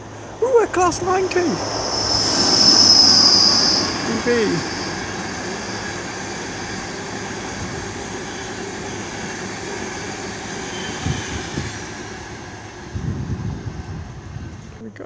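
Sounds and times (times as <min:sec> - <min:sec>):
train passing with rushing rumble: 0:00.0 - 0:15.0.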